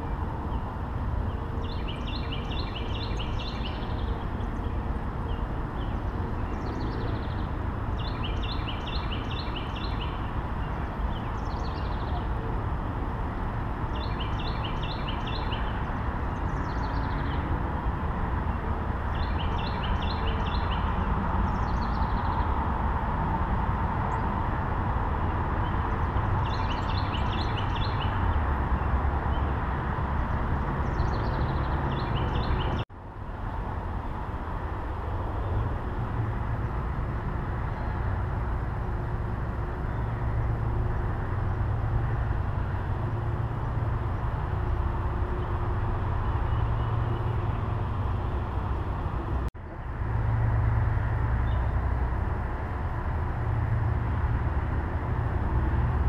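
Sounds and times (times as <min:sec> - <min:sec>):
songbird singing: 0:00.0 - 0:22.8, 0:24.0 - 0:24.5, 0:25.1 - 0:32.9, 0:35.4 - 0:49.8, 0:51.4 - 0:51.9.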